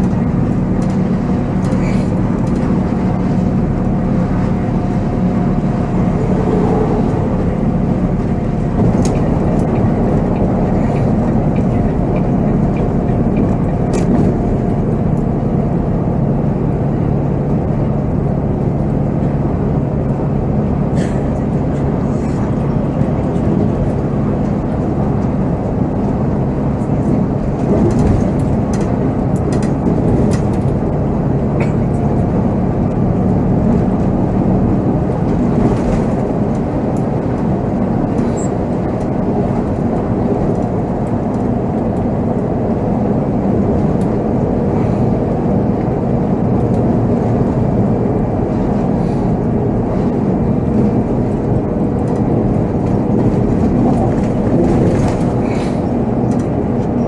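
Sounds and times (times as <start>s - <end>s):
diesel bus engine droning: 0.0s - 57.0s
road noise: 0.0s - 57.0s.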